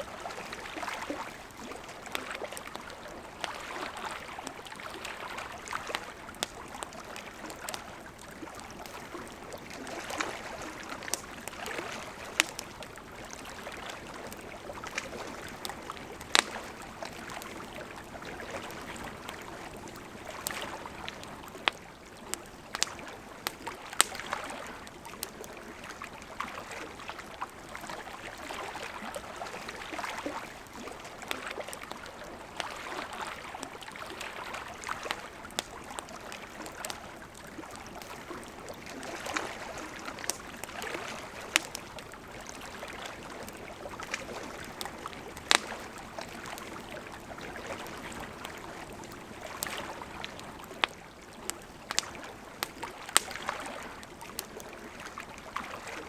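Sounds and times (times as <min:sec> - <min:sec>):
campfire crackling and popping: 0:00.0 - 0:56.0
river flowing: 0:00.0 - 0:56.0.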